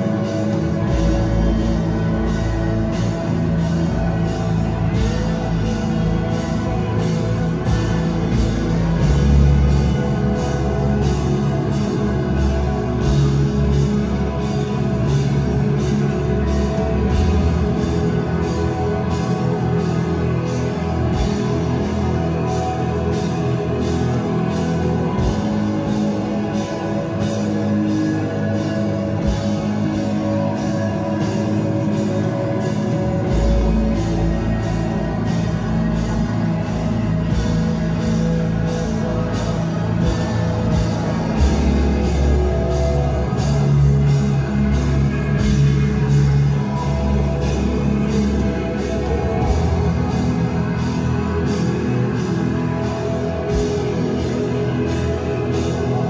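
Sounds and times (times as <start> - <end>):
deep low end bass: 0.0 - 56.0
distorted electric guitars: 0.0 - 56.0
drum kit beat: 0.0 - 56.0.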